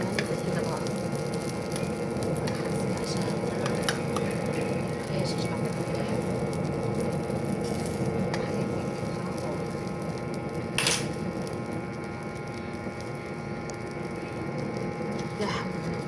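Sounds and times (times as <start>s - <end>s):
cooking fire rushing: 0.0s - 16.0s
fire crack: 0.0s - 16.0s.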